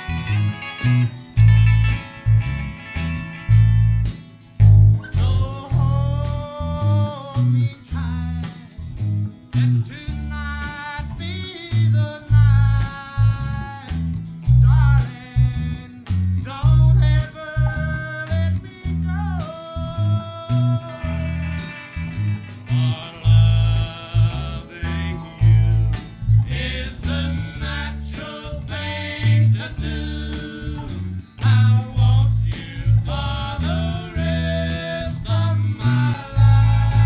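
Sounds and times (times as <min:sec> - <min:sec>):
electric bass guitar plucking: 0:00.0 - 0:37.0
man singing: 0:05.0 - 0:08.9, 0:09.5 - 0:21.7, 0:22.6 - 0:37.0.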